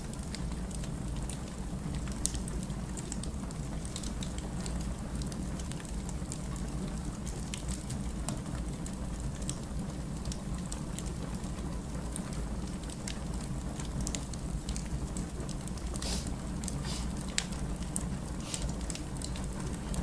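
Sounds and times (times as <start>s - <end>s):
burning logs crackling and popping: 0.1s - 16.2s.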